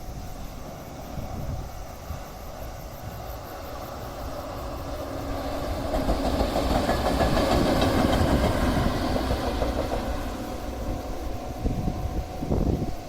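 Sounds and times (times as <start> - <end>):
train rumbling past on track: 0.0 - 13.0.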